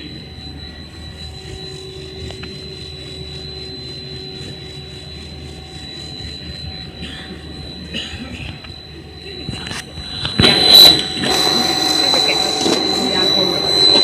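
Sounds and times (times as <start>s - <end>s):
high-pitched machine whine: 0.0s - 14.0s
machinery mechanical drone: 0.0s - 14.0s.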